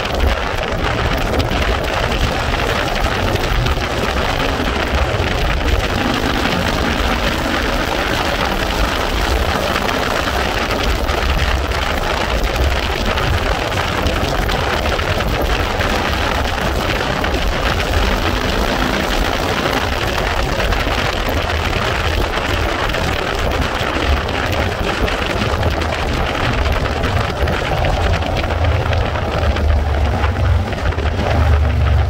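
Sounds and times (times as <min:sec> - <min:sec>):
vehicle engine and road noise: 0:00.0 - 0:32.0
wind buffeting microphone: 0:00.0 - 0:32.0.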